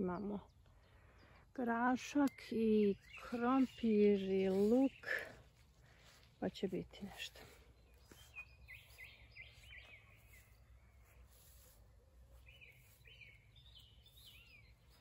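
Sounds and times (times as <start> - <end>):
faint songbird chirping: 0.0 - 15.0.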